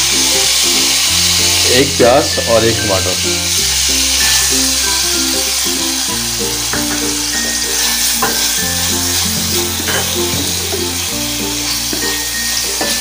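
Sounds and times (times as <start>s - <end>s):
background music of low notes: 0.0s - 13.0s
onion and tomato sizzling: 0.0s - 13.0s.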